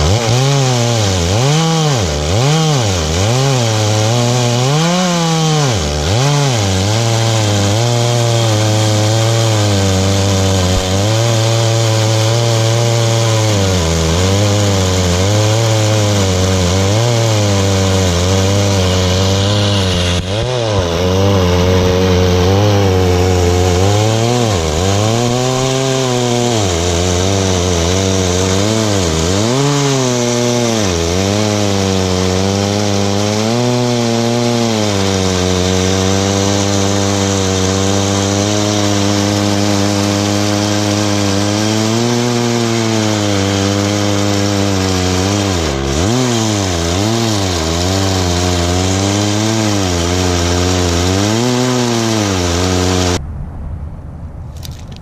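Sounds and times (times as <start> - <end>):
chainsaw cutting through log: 0.0 - 53.2.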